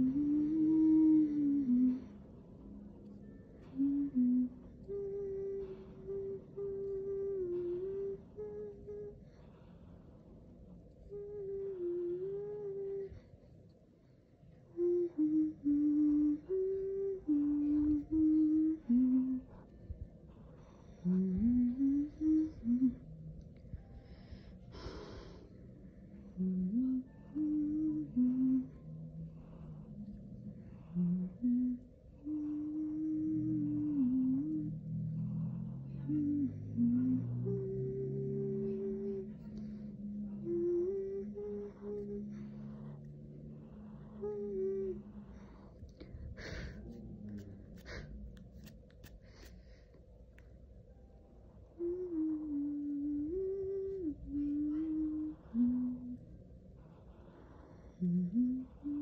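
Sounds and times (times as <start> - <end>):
person humming a slow tune: 0.0 - 13.7, 14.3 - 59.0.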